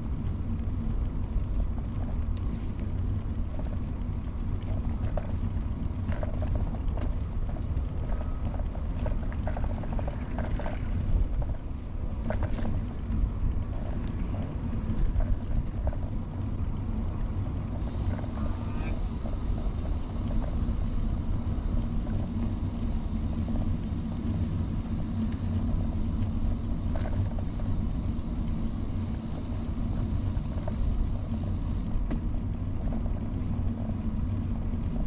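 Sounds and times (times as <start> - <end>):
bicycle clicks and rattles: 0.0 - 35.0
bicycle tyres rumbling on trail: 0.0 - 35.0.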